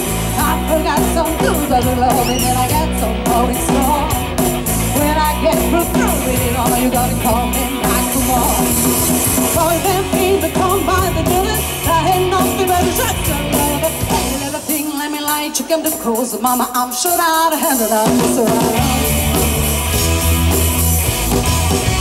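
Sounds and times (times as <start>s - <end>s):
drum kit: 0.0s - 22.0s
electric guitar: 0.0s - 22.0s
woman singing into a microphone: 0.2s - 19.2s.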